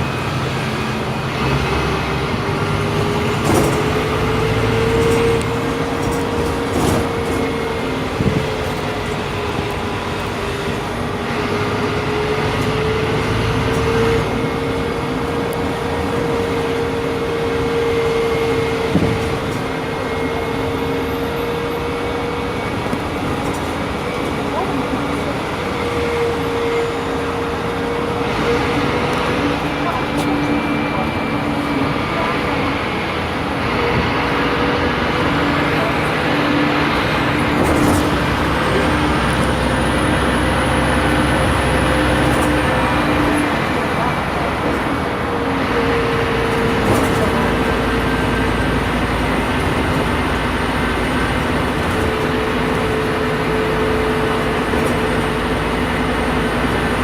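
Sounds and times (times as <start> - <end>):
bus drivetrain drone and whine: 0.0 - 57.0
road noise: 0.0 - 57.0.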